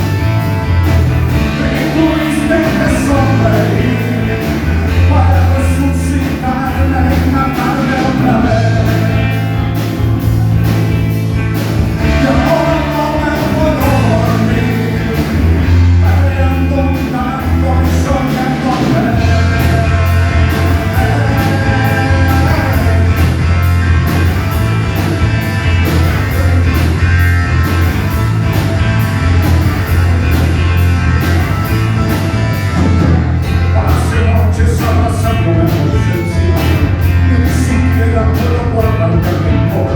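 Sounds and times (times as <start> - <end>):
rock band playing live: 0.0 - 39.9
lead singer singing: 1.3 - 11.1, 12.0 - 27.8, 31.6 - 39.9.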